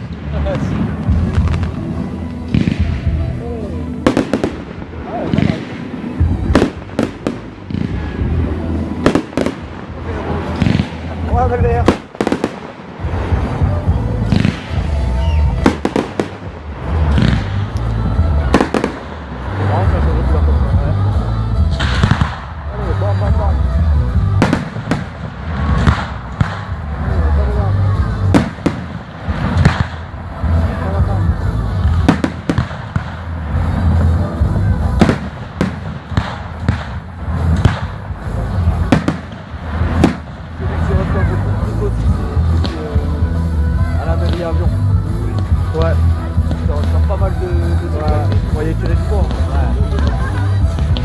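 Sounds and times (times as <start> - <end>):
low rumble: 0.0 - 51.0
music playing: 0.0 - 51.0.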